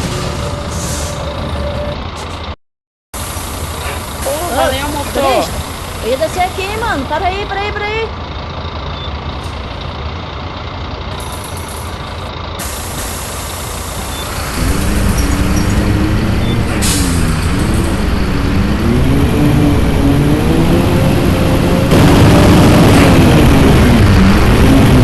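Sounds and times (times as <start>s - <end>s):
bus engine revving: 3.5s - 25.0s.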